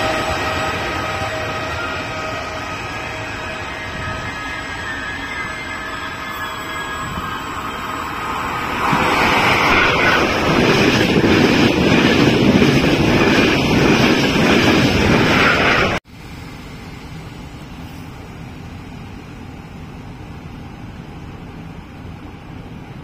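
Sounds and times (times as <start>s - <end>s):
train passing at speed: 0.0s - 23.0s
wheels rushing on rails: 0.0s - 23.0s.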